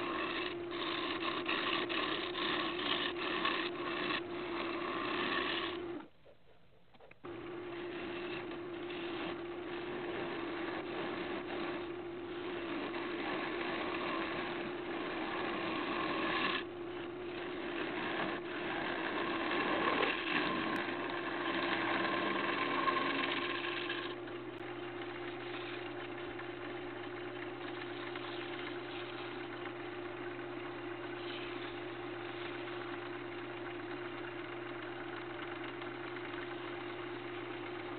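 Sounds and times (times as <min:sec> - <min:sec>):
wood lathe humming: 0:00.0 - 0:06.1, 0:07.1 - 0:37.9
gouge cutting spinning wood: 0:00.0 - 0:06.2, 0:07.0 - 0:37.9.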